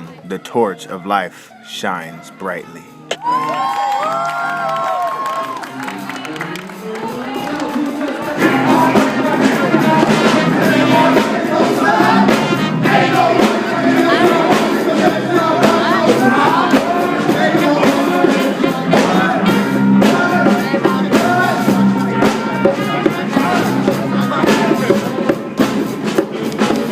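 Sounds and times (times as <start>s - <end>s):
live band playing: 0.0s - 26.9s.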